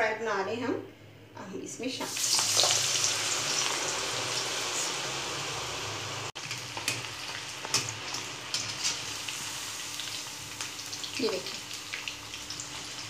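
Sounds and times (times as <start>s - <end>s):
oil sizzling while deep-frying: 2.0s - 13.0s.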